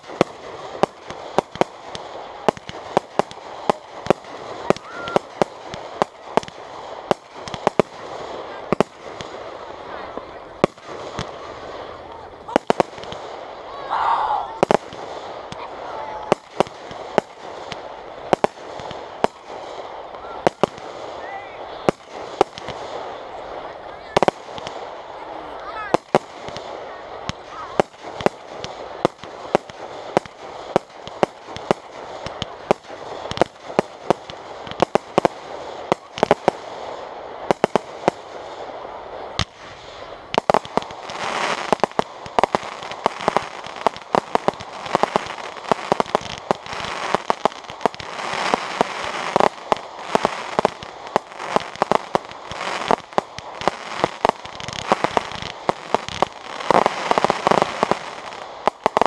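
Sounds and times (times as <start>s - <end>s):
fireworks bursting with sharp bangs: 0.0s - 59.0s.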